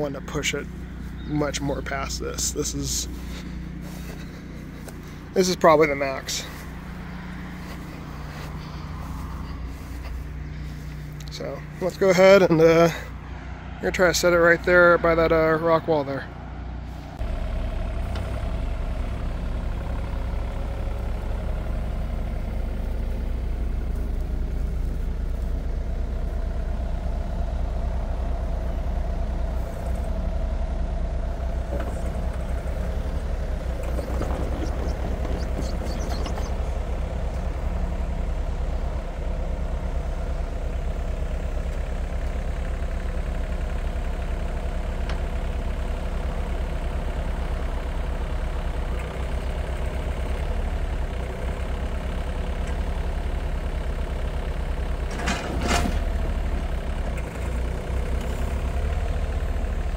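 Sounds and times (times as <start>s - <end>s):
hydraulics working: 0.0s - 15.4s, 17.0s - 59.9s
excavator diesel engine running: 0.0s - 59.9s.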